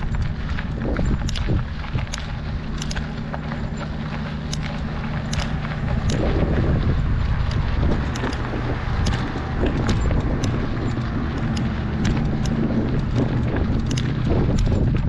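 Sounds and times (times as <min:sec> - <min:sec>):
bike tyres rumbling on gravel: 0:00.0 - 0:15.0
stones clicking and rattling: 0:00.0 - 0:15.0.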